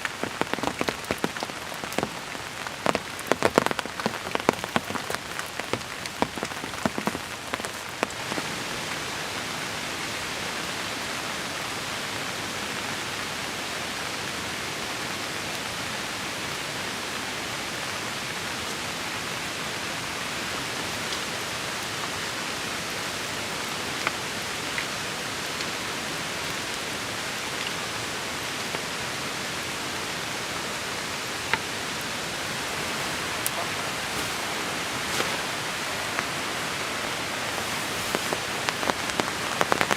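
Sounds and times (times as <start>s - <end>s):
big raindrops ticking on surface: 0.0s - 39.9s
heavy rain hissing: 0.0s - 39.9s.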